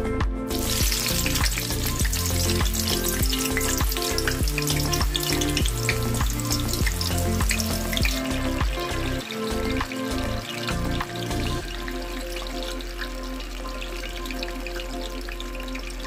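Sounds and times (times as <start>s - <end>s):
background music with beat: 0.0s - 16.0s
onions sizzling in oil: 0.5s - 16.0s.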